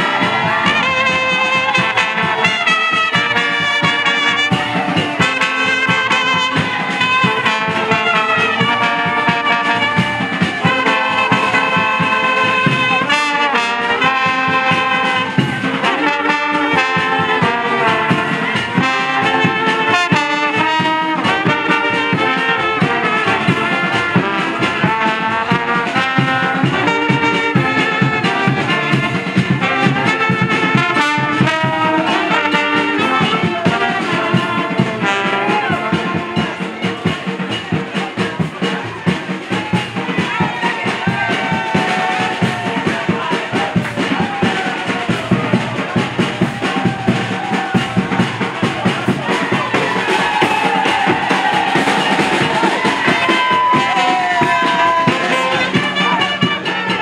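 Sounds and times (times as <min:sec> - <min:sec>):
brass band playing: 0:00.0 - 0:57.0
drums: 0:00.0 - 0:57.0.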